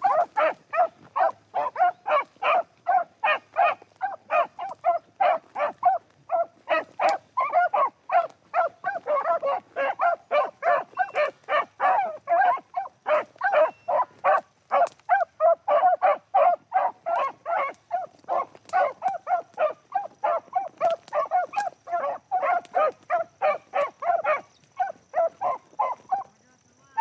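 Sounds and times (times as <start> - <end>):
hounds baying: 0.0 - 27.0.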